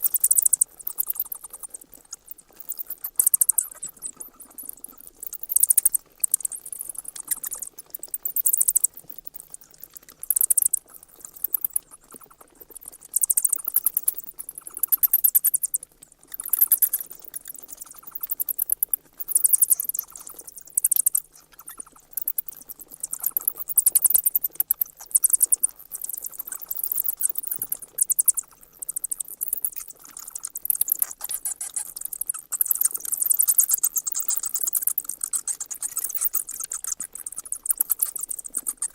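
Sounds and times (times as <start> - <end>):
bats squeaking: 0.0 - 1.8, 2.6 - 9.2, 10.3 - 12.4, 13.1 - 15.7, 16.4 - 38.9.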